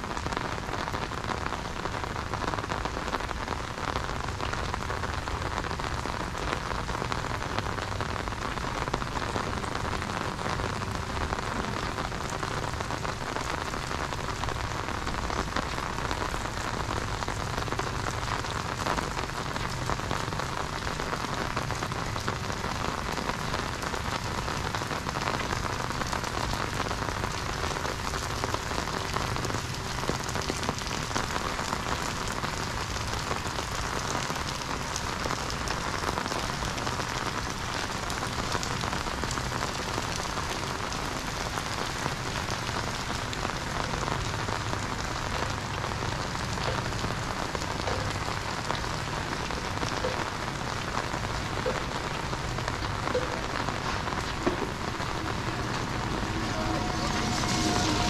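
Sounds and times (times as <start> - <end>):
rain on a paved road: 0.0 - 58.0
rain on an umbrella: 0.0 - 58.0.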